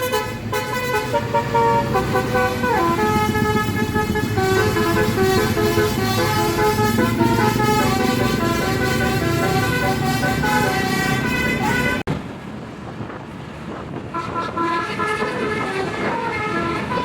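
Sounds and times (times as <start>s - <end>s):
multi-tone air horn playing a tune: 0.0s - 12.0s, 14.1s - 17.0s.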